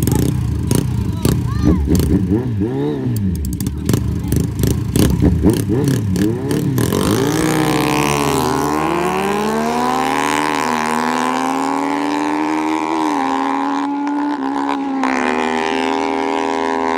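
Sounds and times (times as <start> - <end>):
motorcycle engine accelerating: 0.0 - 16.9
scooter engine accelerating hard: 0.0 - 16.9.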